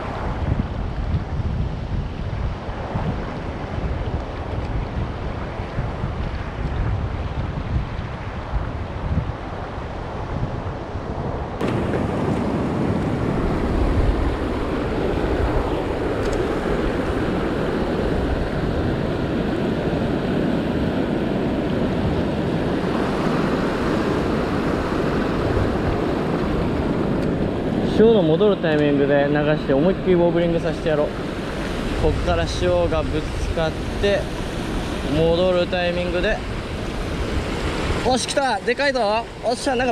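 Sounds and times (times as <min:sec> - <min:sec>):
sea waves washing: 0:00.0 - 0:39.9
wind buffeting microphone: 0:00.0 - 0:39.9.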